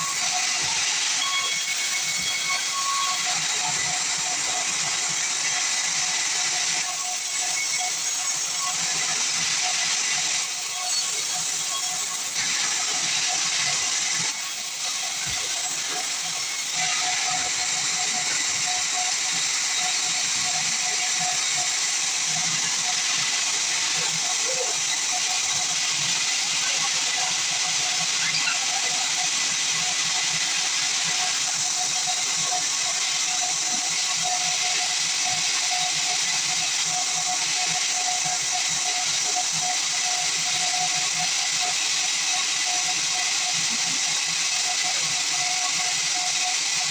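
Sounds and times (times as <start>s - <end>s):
band saw cutting log: 0.0s - 46.9s.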